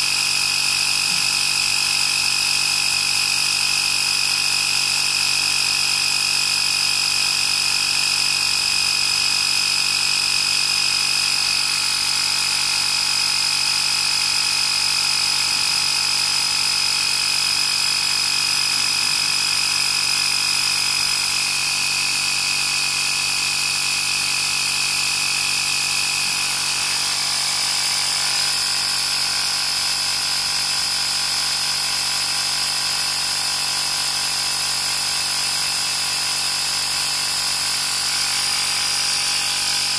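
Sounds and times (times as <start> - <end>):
air compressor motor whine: 0.0 - 39.9.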